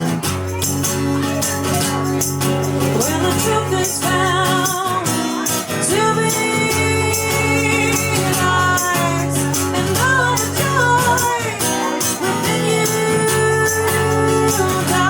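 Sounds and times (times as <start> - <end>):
low instrumental backing: 0.0 - 15.0
singer with strong vibrato: 0.8 - 15.0.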